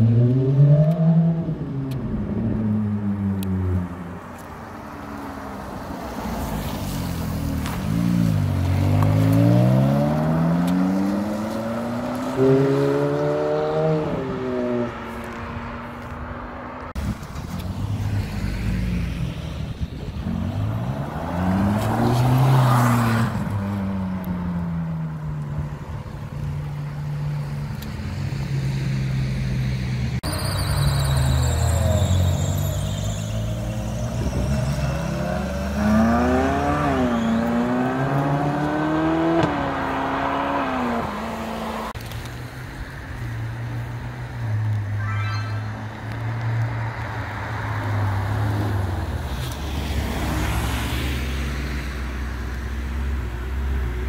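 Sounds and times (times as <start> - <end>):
sports car engines accelerating: 0.0 - 45.0.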